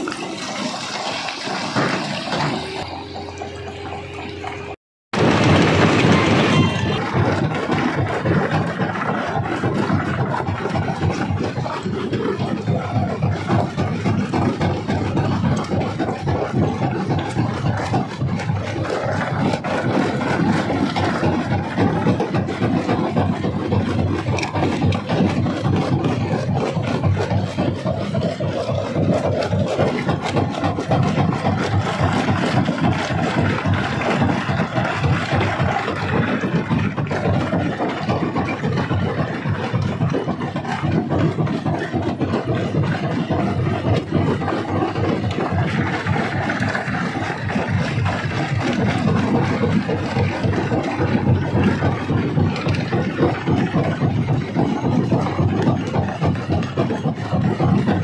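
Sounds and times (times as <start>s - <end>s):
stone crusher machine drone: 0.0s - 58.0s.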